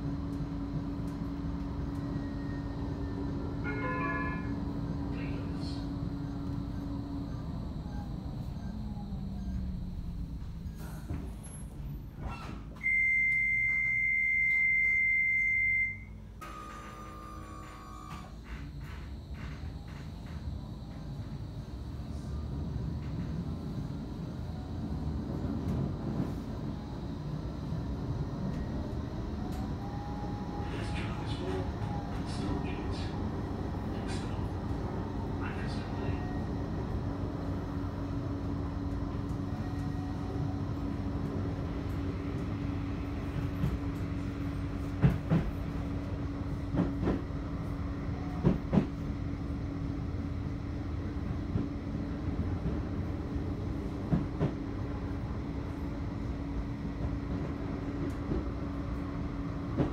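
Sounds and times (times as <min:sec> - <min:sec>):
tram rumbling on track: 0:00.0 - 0:59.9.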